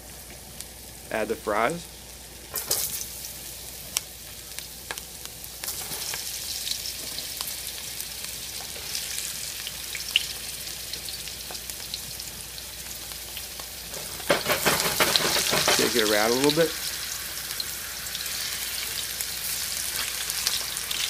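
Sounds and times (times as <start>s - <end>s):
potatoes sizzling in oil: 0.0s - 21.0s.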